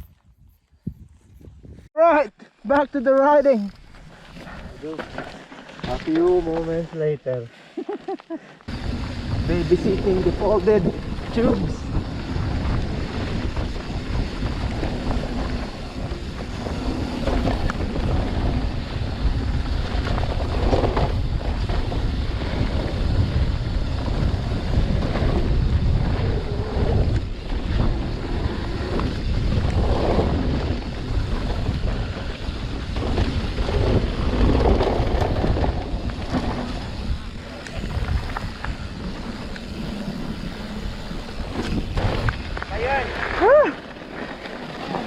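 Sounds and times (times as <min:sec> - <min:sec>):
wind buffeting microphone: 0:00.0 - 0:02.0, 0:08.7 - 0:44.9.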